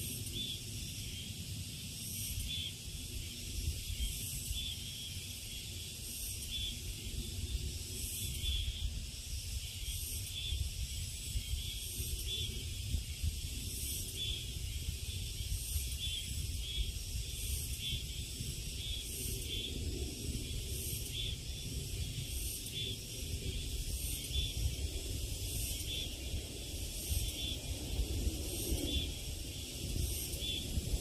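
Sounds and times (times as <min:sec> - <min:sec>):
cicadas chorus: 0:00.0 - 0:31.0.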